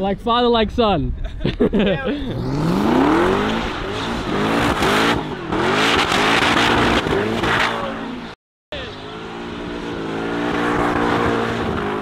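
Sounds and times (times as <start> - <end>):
car engine revving hard: 2.3 - 12.0.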